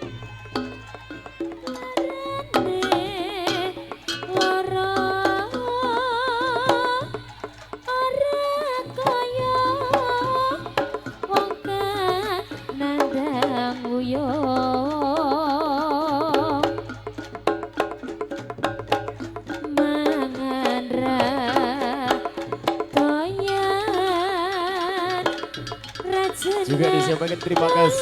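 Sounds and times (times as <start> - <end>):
sharp drum strokes: 0.0 - 28.0
wavering vibrato melody: 0.0 - 28.0.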